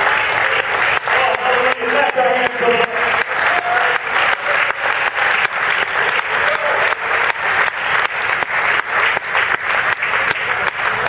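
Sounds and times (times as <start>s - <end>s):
congregation applauding: 0.0s - 11.0s
sharp individual claps: 0.0s - 11.0s.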